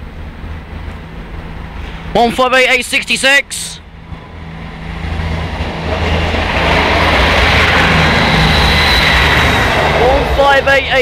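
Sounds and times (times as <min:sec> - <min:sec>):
diesel train engines running: 0:00.0 - 0:11.0
train wheels on rails: 0:00.0 - 0:11.0.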